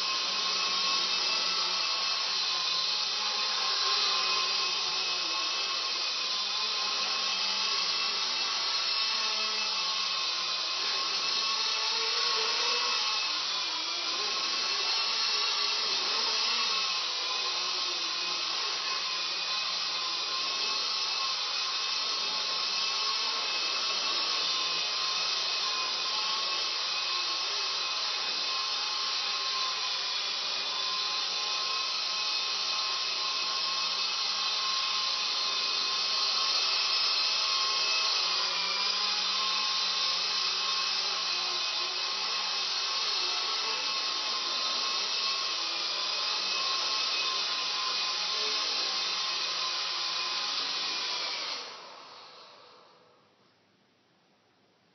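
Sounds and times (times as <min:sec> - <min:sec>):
rc helicopter motor whine: 0:00.0 - 0:53.1.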